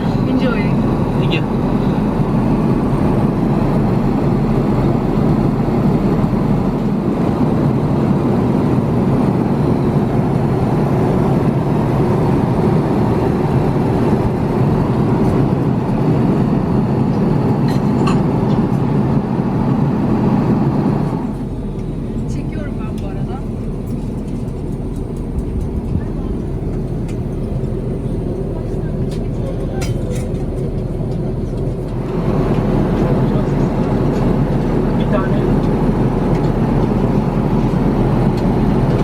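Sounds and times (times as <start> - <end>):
airplane cabin airflow and engine drone: 0.0 - 39.0.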